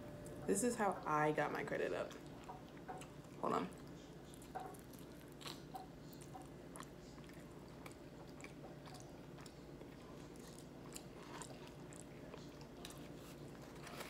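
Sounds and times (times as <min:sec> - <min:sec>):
faint chewing: 0:02.0 - 0:14.0.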